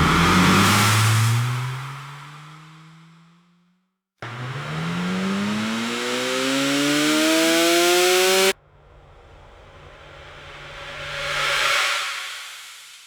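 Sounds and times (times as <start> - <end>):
car engine accelerating: 0.0 - 3.6, 4.2 - 12.2.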